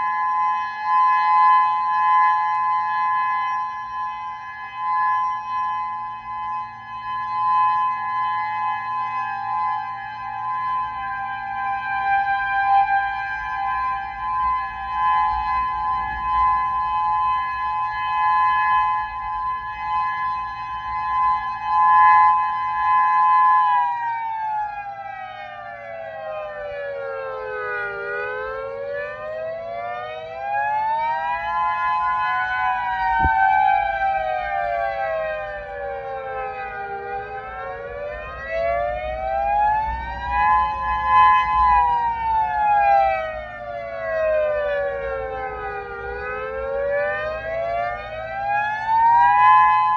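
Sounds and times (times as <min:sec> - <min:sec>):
warning siren wailing: 0:00.0 - 0:49.9.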